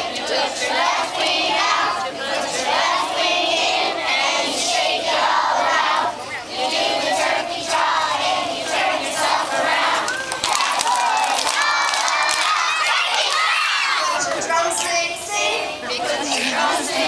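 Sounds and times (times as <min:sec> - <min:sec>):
children singing together: 0:00.0 - 0:14.5, 0:15.2 - 0:17.0.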